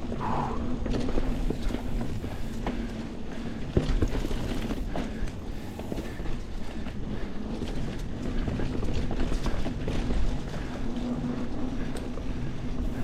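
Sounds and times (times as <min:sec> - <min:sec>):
bike rattling over bumps: 0:00.0 - 0:13.0
bike tyres rolling on dirt: 0:00.0 - 0:13.0.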